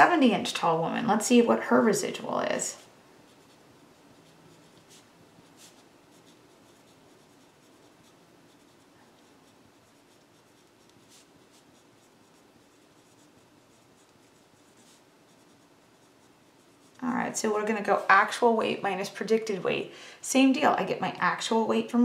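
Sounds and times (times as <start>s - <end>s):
pencil scratching on paper: 1.2s - 19.4s.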